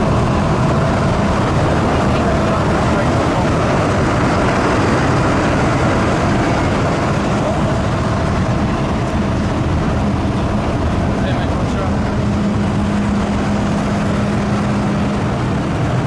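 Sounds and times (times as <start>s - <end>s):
heavy diesel engines rumbling: 0.0s - 16.0s.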